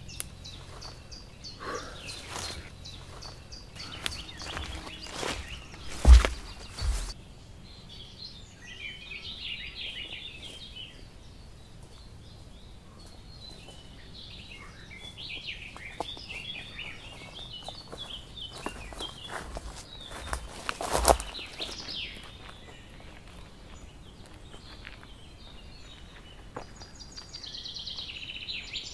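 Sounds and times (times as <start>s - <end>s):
songbird chirping: 0.0s - 28.9s
footsteps rustling through grass: 0.4s - 7.2s, 9.6s - 27.3s.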